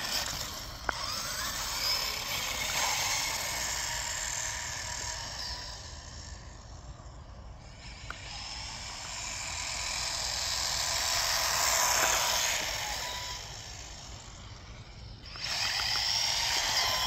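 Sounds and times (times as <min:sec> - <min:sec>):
rc truck motor whine: 0:00.0 - 0:17.0.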